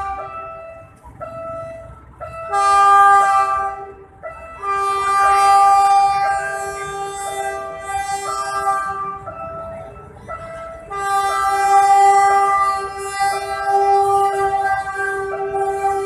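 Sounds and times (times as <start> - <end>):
locomotive horn blasts: 0.0 - 16.0.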